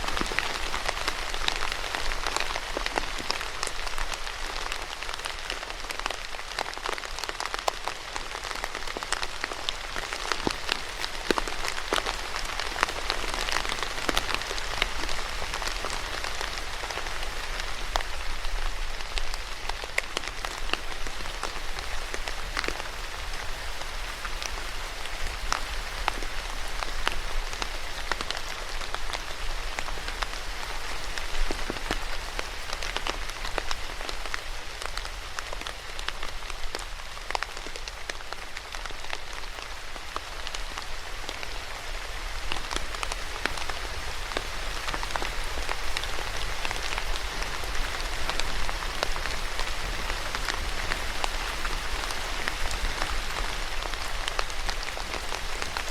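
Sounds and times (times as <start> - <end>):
rain on a hard surface: 0.0 - 55.9.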